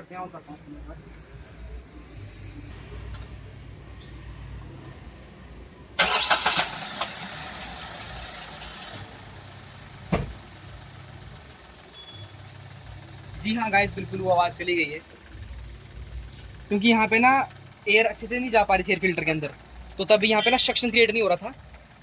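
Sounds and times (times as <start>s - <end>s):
car engine starting and idling: 1.0s - 22.0s.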